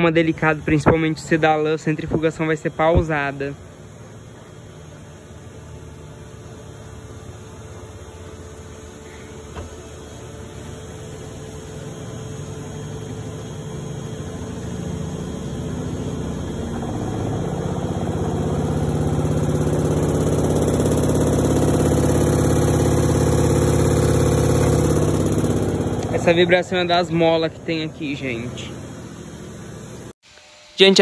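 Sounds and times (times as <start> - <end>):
washing machine spinning hum: 0.0 - 30.1
washing machine vibration: 0.0 - 30.1.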